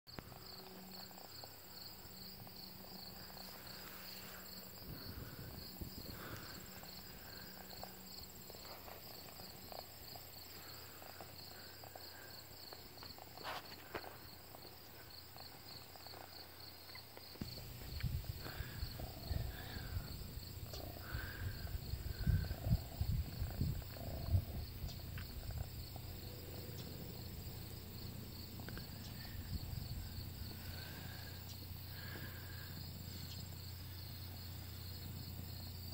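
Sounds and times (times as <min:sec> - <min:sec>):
insect chirping: 0:00.1 - 0:35.9.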